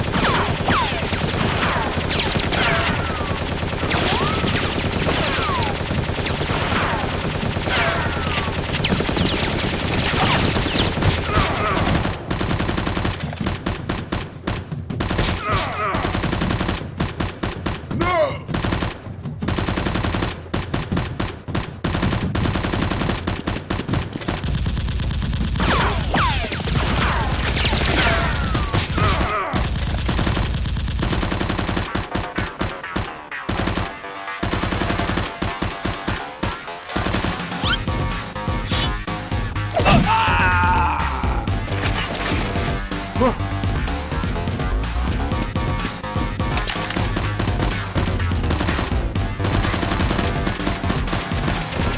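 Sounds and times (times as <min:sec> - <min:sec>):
automatic gunfire: 0:00.0 - 0:37.7, 0:46.6 - 0:51.9.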